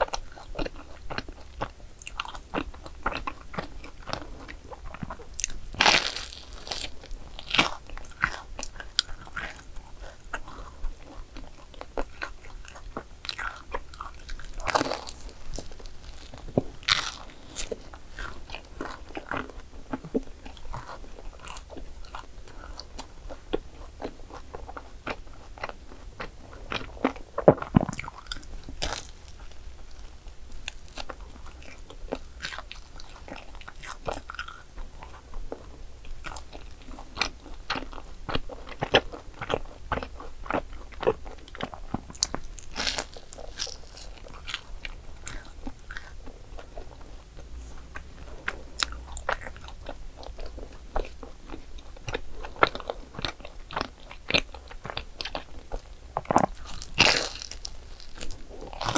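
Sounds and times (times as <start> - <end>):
crunchy bites and chewing: 0.0 - 58.9.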